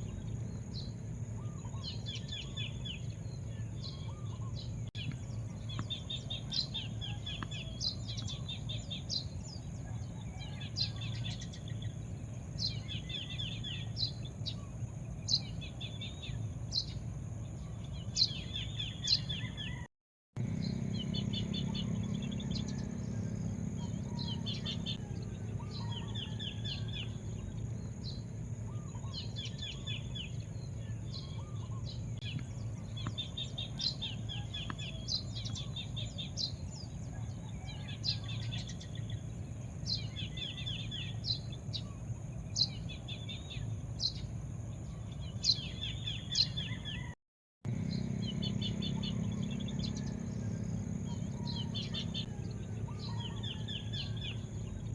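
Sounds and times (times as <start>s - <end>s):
low background rumble: 0.0s - 47.0s, 47.7s - 54.9s
birds chirping: 0.0s - 54.9s.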